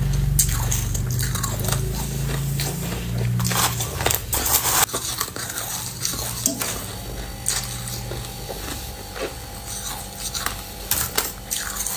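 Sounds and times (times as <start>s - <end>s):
crushed ice being chewed: 0.0s - 11.9s.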